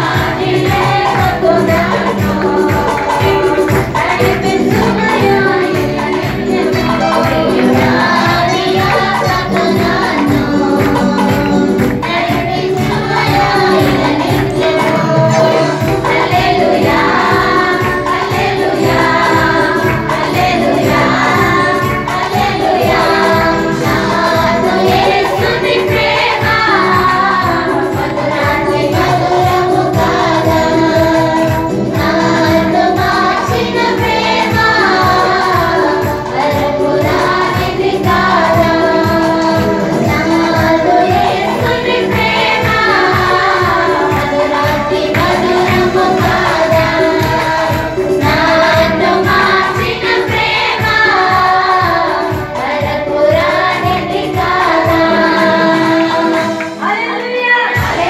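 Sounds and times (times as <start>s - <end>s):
steady beat: 0.0s - 56.8s
women's choir singing a hymn: 0.0s - 58.0s.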